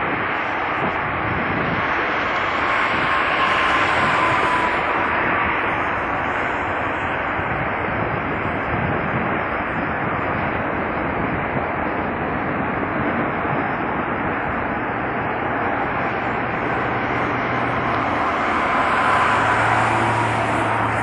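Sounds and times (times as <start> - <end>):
faint jet whine: 0.0 - 21.0
jet engines rushing: 0.0 - 21.0.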